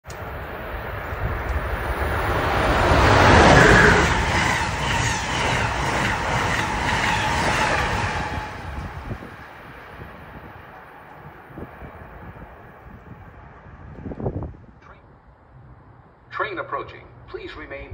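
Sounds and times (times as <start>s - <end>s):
passenger train passing: 0.1s - 16.3s.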